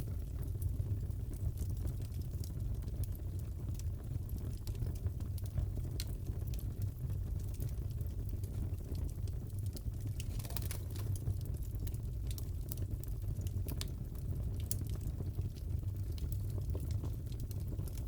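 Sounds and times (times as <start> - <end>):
fire rumbling: 0.0 - 18.0
wood fire popping and snapping: 0.0 - 18.0.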